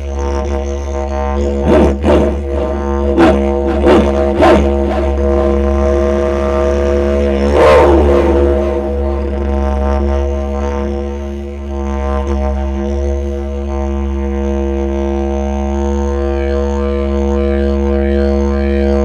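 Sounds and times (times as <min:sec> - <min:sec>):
didgeridoo drone: 0:00.0 - 0:19.0.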